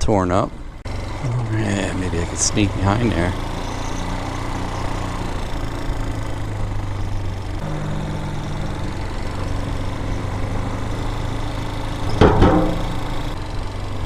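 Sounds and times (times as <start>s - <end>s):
dirt bike engine running: 0.6s - 14.0s.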